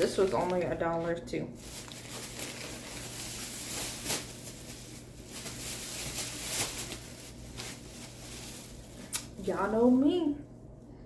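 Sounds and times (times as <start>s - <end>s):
soft rustling: 0.0s - 9.1s.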